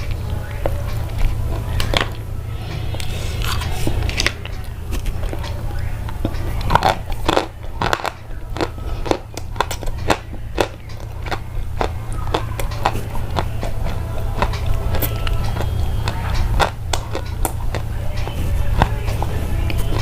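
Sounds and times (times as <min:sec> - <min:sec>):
steady low hum: 0:00.0 - 0:20.0
crisp clicks and crunches: 0:03.4 - 0:20.0.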